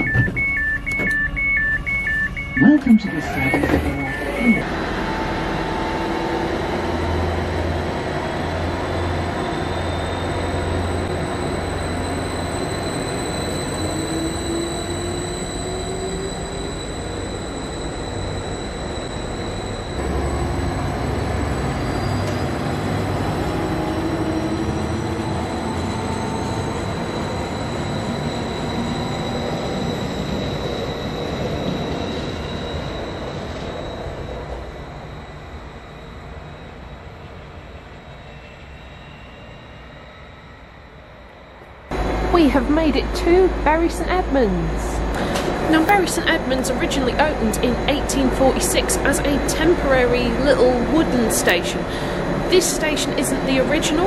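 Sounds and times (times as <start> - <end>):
train engine and running noise: 0.0 - 54.0.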